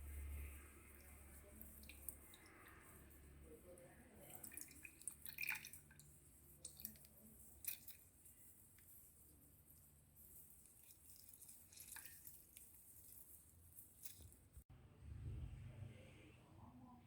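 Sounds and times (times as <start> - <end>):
faint drips: 0.0 - 14.6.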